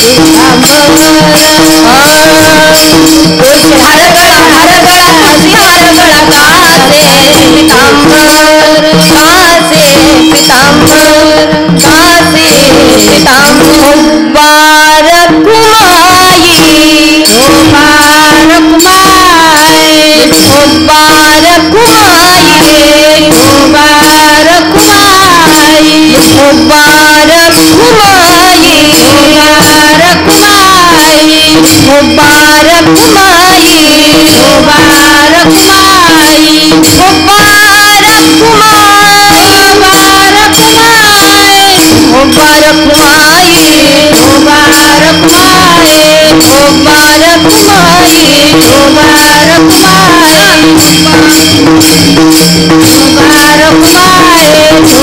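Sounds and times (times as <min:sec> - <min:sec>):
hand cymbals clashing: 0:00.0 - 0:55.0
ornamented melody: 0:00.0 - 0:55.0.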